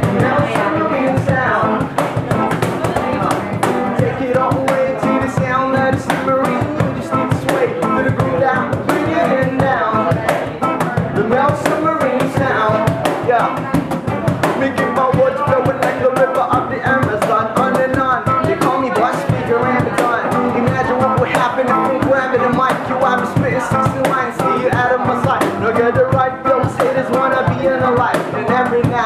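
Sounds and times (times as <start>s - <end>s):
guitars playing: 0.0s - 29.0s
man singing: 0.0s - 29.0s
percussive beat: 0.0s - 29.0s.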